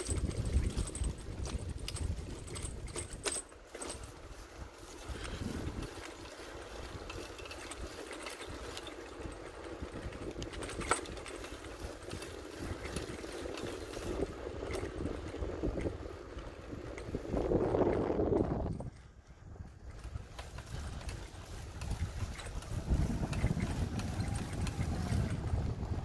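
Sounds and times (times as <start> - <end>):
bicycle rattling and clicking: 0.0 - 26.0
wind rumble on microphone: 0.0 - 26.0.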